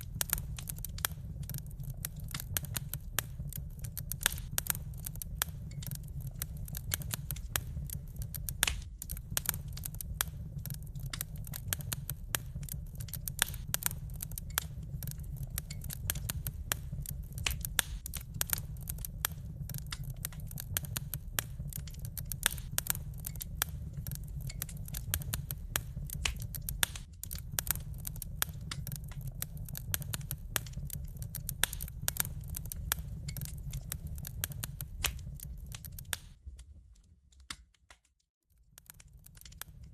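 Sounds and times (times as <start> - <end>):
low rumble: 0.0 - 37.0
wood fire crackling and popping: 0.0 - 39.9.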